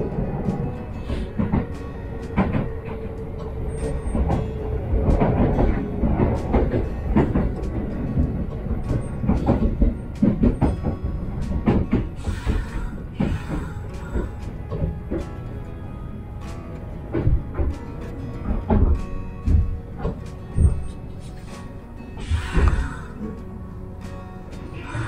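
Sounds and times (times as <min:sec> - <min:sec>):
electric train rumble: 0:00.0 - 0:25.0
steady whine: 0:00.0 - 0:25.0
wheels clacking over rail joints: 0:00.0 - 0:25.0.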